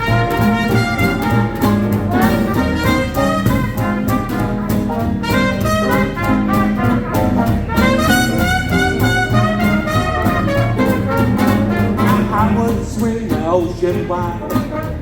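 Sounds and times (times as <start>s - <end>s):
trumpet playing melody: 0.0s - 12.6s, 14.5s - 15.0s
jazz rhythm section: 0.0s - 15.0s
walking bass: 0.0s - 15.0s.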